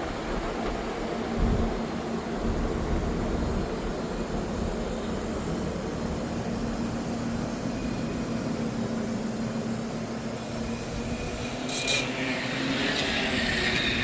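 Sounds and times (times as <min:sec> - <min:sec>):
heat pump fan running: 0:00.0 - 0:14.0.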